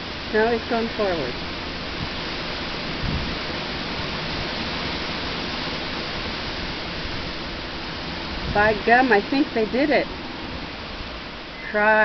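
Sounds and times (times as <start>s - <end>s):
rain: 0.0s - 12.0s
storm wind rushing: 0.0s - 12.0s.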